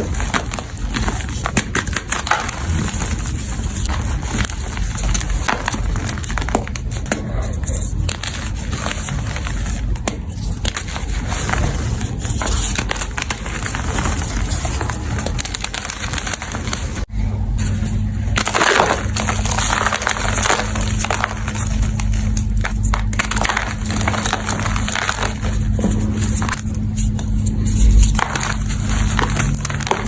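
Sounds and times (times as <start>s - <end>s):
chalk being crushed: 0.0s - 17.1s, 18.3s - 30.0s.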